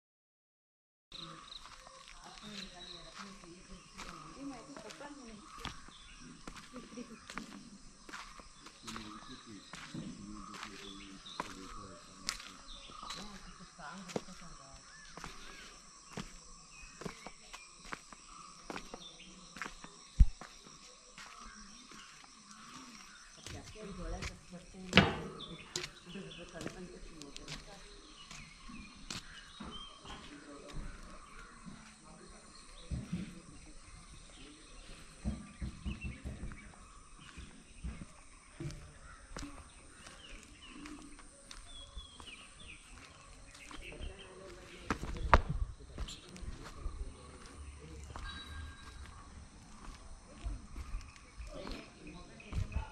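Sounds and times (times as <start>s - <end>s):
bird chirps: 1.1s - 52.9s
insect chirring: 1.2s - 44.6s, 45.6s - 52.9s
footsteps: 1.5s - 52.9s.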